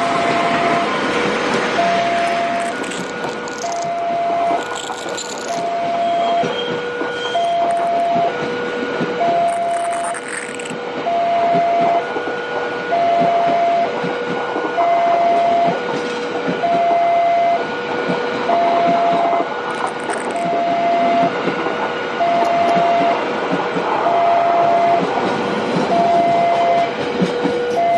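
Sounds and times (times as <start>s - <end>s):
train running past: 0.0s - 3.1s, 5.6s - 9.5s, 10.8s - 19.7s, 20.6s - 27.9s
two-tone crossing alarm: 0.0s - 14.1s, 14.8s - 16.0s, 16.6s - 21.5s, 22.2s - 23.3s, 24.0s - 25.1s, 25.9s - 27.9s.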